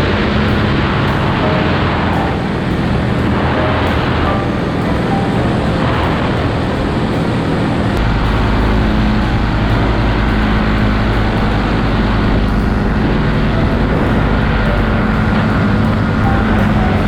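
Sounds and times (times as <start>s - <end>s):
paramotor engine and propeller: 0.0s - 17.0s
rushing noise: 0.0s - 17.0s.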